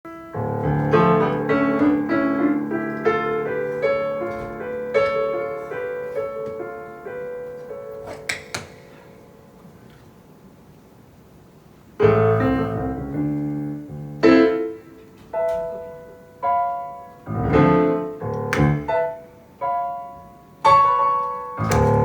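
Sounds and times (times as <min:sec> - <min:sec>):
slow piano playing: 0:00.1 - 0:10.6, 0:11.9 - 0:22.0.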